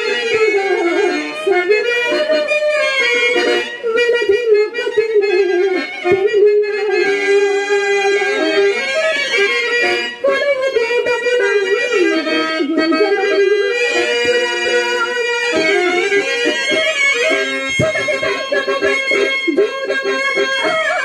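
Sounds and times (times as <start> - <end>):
harmonium melody: 0.0 - 21.0.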